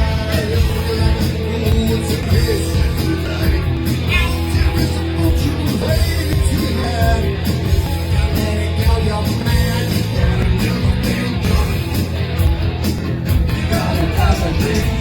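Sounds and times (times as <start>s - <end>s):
person singing: 0.0s - 12.0s, 13.5s - 15.0s
live rock band playing: 0.0s - 15.0s.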